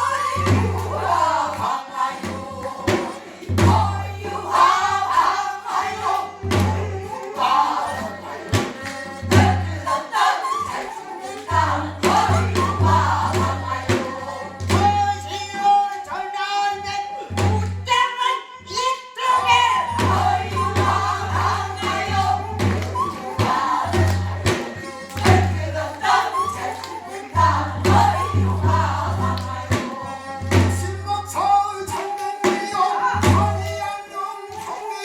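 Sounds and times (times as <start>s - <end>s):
folk singing with vibrato: 0.0s - 35.0s.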